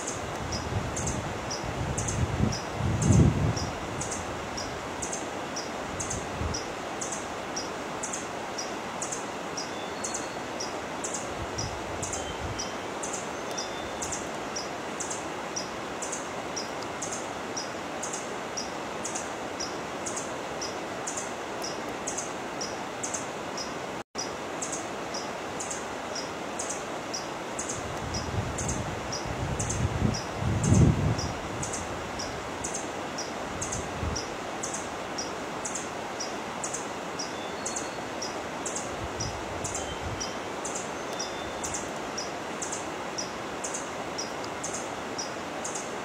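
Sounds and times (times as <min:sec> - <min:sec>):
wind through leaves: 0:00.0 - 0:46.0.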